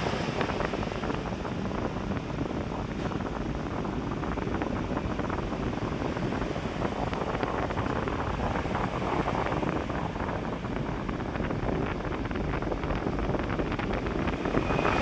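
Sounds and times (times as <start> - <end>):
electric fan air rush: 0.0 - 15.0.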